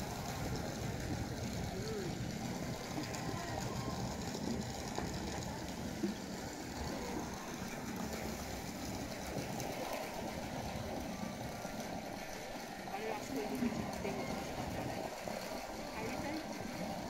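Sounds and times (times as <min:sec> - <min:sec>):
faint voices talking: 0:00.0 - 0:17.0
low outdoor rumble: 0:00.0 - 0:17.0.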